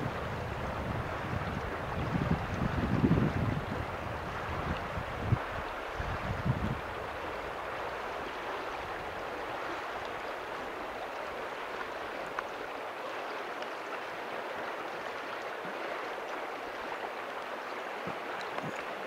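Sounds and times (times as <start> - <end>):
river water over gravel: 0.0 - 19.0.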